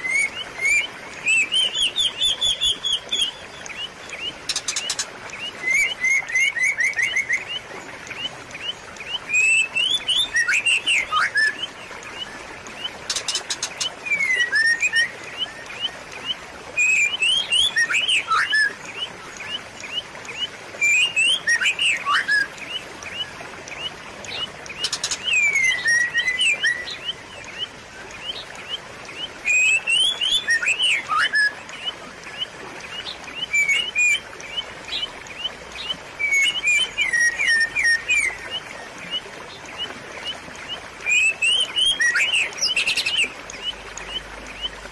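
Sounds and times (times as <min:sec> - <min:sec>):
running water rushing: 0:00.0 - 0:44.9
songbirds chirping: 0:00.0 - 0:44.9.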